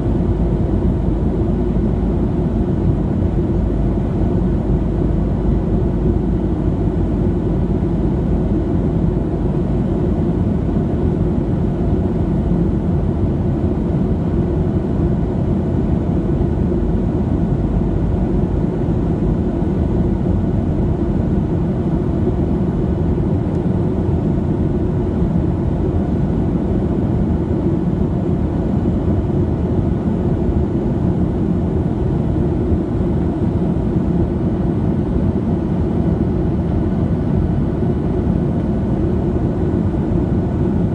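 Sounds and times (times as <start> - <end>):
airplane cabin engine noise: 0.0 - 40.9.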